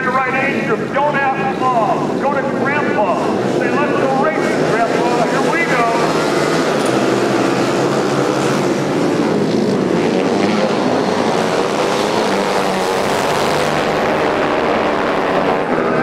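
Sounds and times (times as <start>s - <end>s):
motorcycle engines droning: 0.0s - 16.0s.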